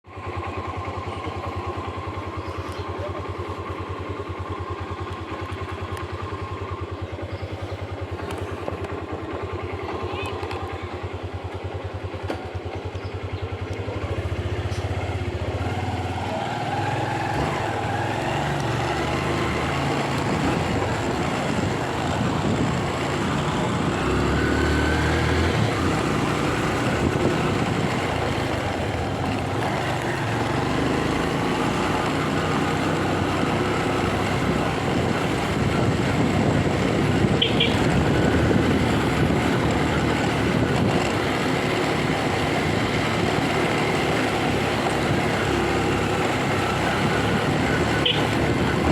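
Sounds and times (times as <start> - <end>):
wind and road noise: 0.0 - 48.9
motorcycle engine running: 0.1 - 48.9.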